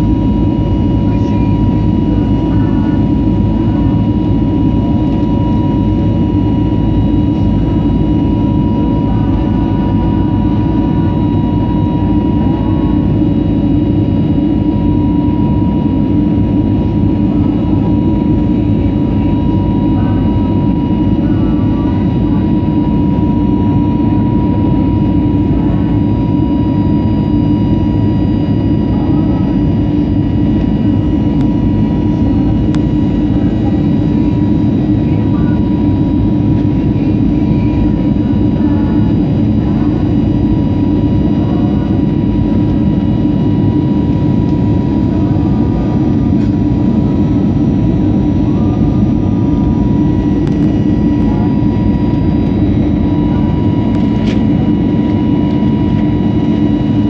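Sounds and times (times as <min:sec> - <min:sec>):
airliner cabin engine rumble: 0:00.0 - 0:57.0
constant engine whine: 0:00.0 - 0:57.0.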